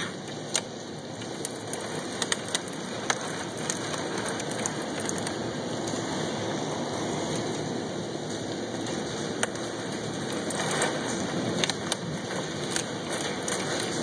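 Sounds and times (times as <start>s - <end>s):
hailstones striking hard surfaces: 0.0s - 7.7s, 8.3s - 14.0s
heavy wind-driven downpour: 0.0s - 14.0s.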